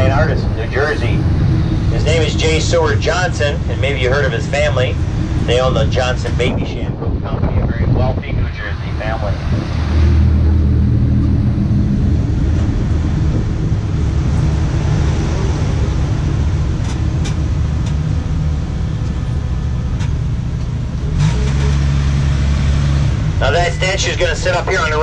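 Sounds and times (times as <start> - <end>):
tram engine running: 0.0 - 7.0, 9.9 - 25.0
road noise: 0.0 - 25.0.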